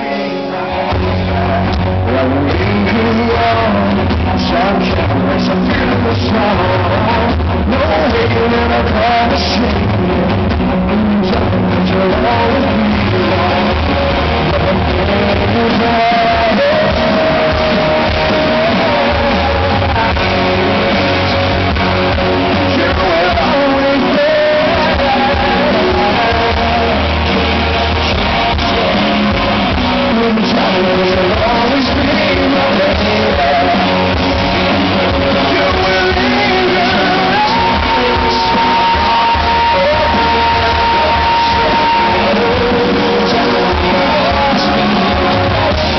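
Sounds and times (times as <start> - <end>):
electric guitar: 0.0 - 45.9
live rock band: 0.0 - 45.9
man singing lead vocal: 0.0 - 45.9.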